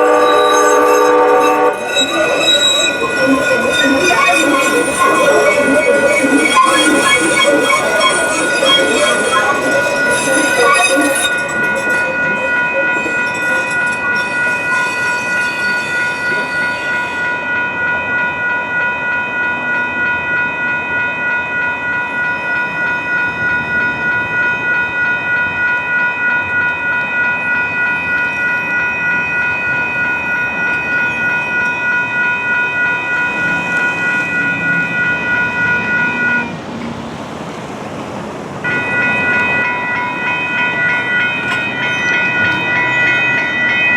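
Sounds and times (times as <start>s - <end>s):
crossing warning bells ringing: 0.0s - 43.9s
light rail train passing: 0.0s - 43.9s.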